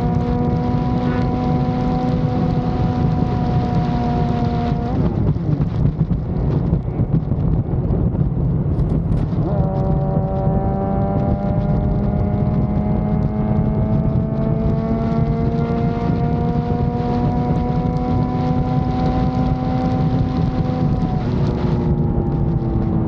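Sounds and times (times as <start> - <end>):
motorcycle engine: 0.0 - 23.0
wind rush: 0.0 - 23.0.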